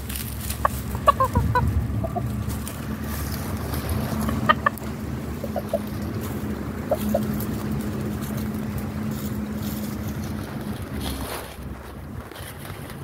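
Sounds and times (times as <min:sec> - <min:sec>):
chickens clucking: 0:00.0 - 0:11.9
low hum: 0:00.0 - 0:13.0.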